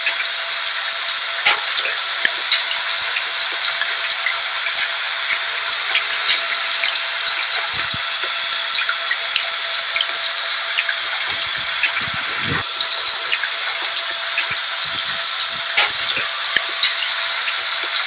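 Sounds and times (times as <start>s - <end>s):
vacuum cleaner motor: 0.0s - 18.0s.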